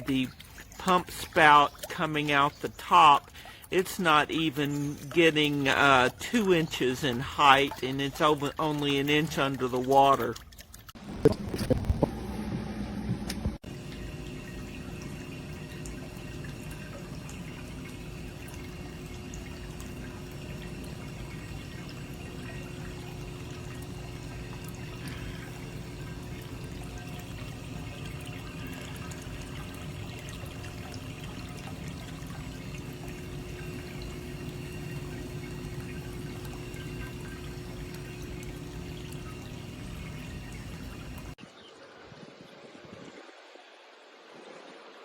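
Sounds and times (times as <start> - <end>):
water splashing burble: 0.0 - 12.6, 14.5 - 41.4
fountain pump humming: 0.0 - 41.4.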